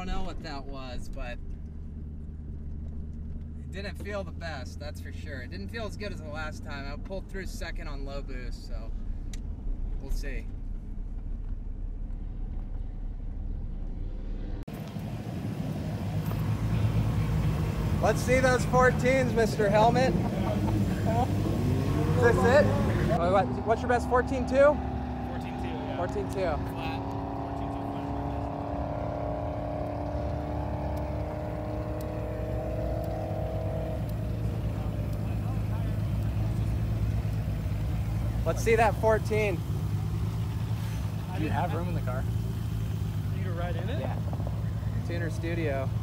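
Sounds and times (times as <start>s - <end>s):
rumbling engine close by: 0.0s - 46.0s
car engine drone inside cabin: 8.8s - 46.0s.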